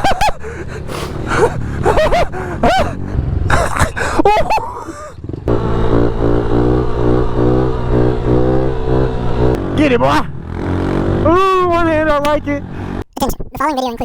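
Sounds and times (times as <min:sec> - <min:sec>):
pit-bike motorcycle engine running: 0:00.4 - 0:13.0.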